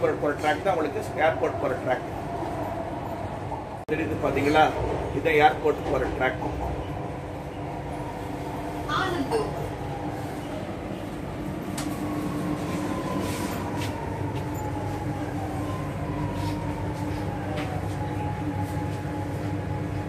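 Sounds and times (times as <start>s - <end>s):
train rumble and hum: 0.0s - 20.0s.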